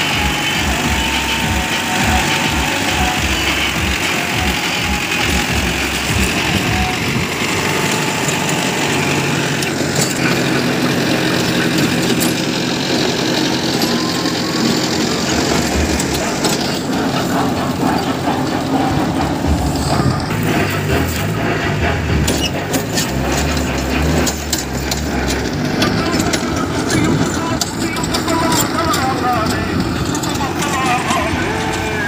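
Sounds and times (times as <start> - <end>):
tiller blades churning soil: 0.0 - 32.0
tractor diesel engine running: 0.0 - 32.0.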